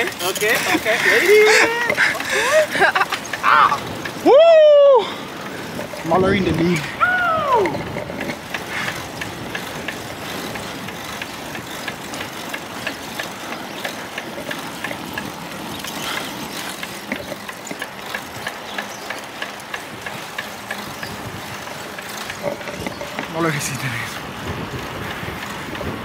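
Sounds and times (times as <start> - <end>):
light bicycle ticks: 0.0 - 26.0
wind and road noise: 0.0 - 26.0.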